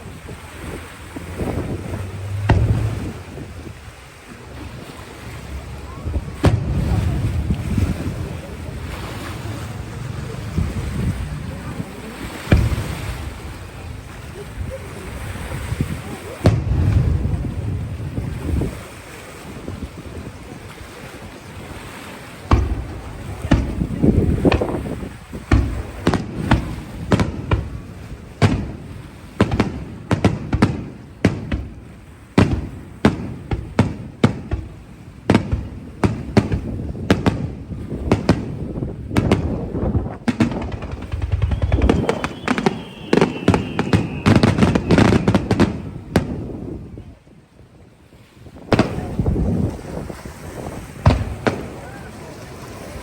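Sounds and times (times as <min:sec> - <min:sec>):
fireworks bangs with rumbling echoes: 0:00.0 - 0:47.1, 0:48.5 - 0:53.0.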